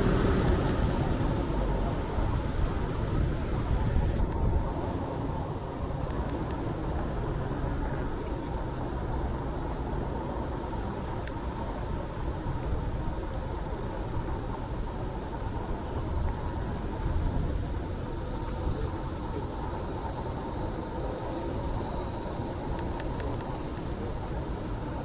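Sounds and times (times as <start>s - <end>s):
higher traffic hiss: 0.0s - 25.0s
road noise rumble: 0.0s - 25.0s.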